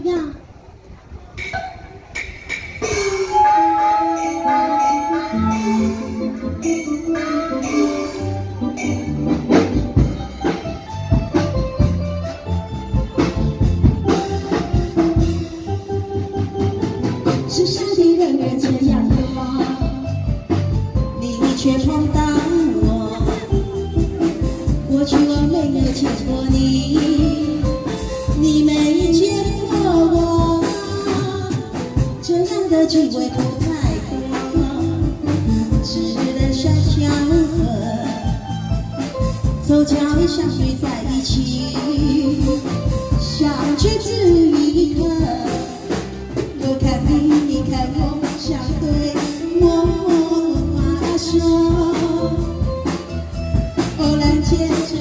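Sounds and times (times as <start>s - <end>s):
band accompaniment: 0.0s - 55.0s
person singing through microphone: 2.9s - 10.3s, 17.2s - 52.9s, 54.0s - 55.0s.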